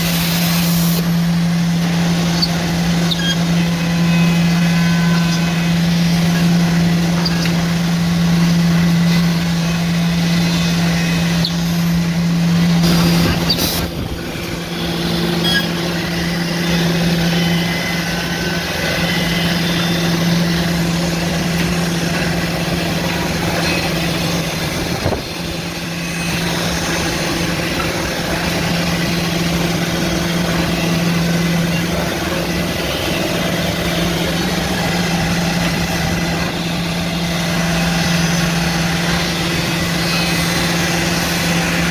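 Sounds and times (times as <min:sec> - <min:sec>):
boring machine humming: 0:00.0 - 0:41.9.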